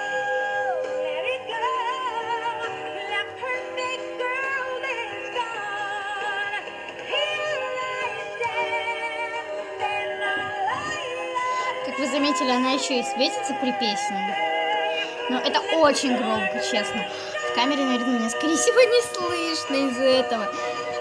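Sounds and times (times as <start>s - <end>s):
backing music: 0.0s - 21.0s
doll speaker woman singing: 0.0s - 21.0s.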